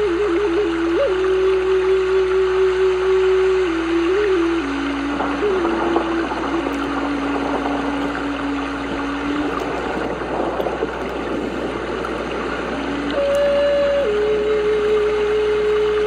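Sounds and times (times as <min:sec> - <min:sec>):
rushing stream-like noise: 0:00.0 - 0:16.0
slow ambient music: 0:00.0 - 0:16.0.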